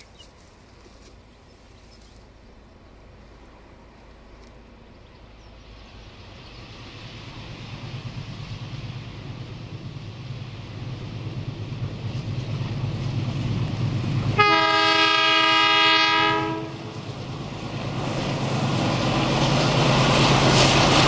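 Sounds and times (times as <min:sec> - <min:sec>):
locomotive engine humming: 0:00.0 - 0:21.0.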